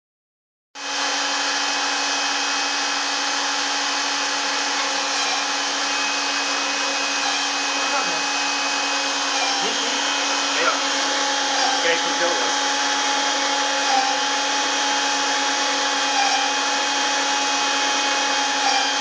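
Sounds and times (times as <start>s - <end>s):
router spindle whining: 0.8s - 19.0s.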